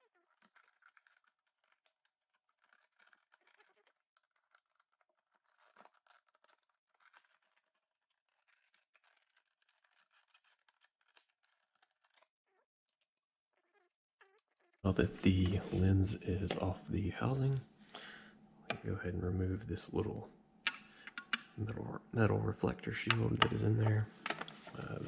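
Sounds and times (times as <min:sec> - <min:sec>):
plastic lens scraping and crackling: 0:00.0 - 0:18.1, 0:18.7 - 0:25.0.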